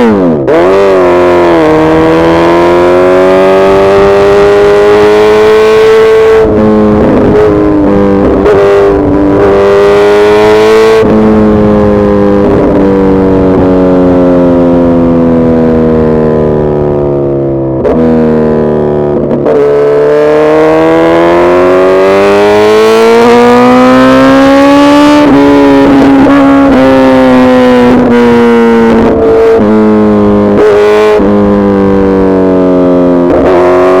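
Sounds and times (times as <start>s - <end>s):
motorcycle engine running hard: 0.0s - 34.0s.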